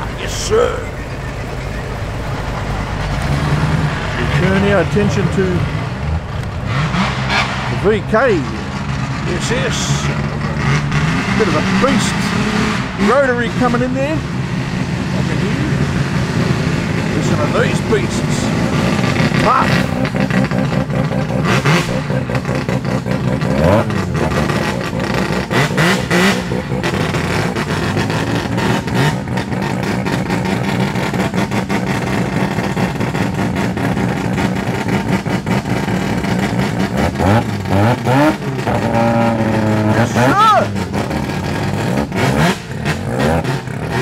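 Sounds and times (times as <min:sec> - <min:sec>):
car engines idling and revving: 0:00.0 - 0:44.0.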